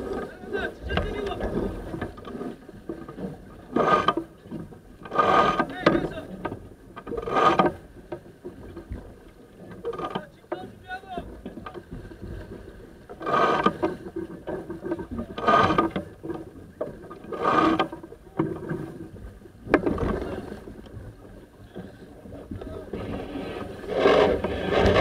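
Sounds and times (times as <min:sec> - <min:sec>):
water rushing along hull: 0:00.0 - 0:25.0.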